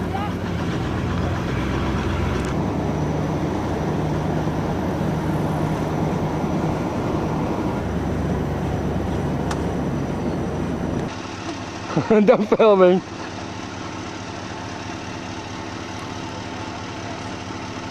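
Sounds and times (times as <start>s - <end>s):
pickup truck engine and road noise: 0.0s - 17.9s.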